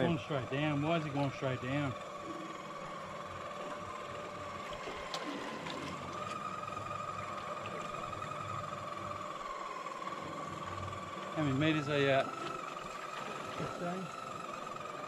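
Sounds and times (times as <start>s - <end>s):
fishing reel motor whining: 0.0s - 15.0s.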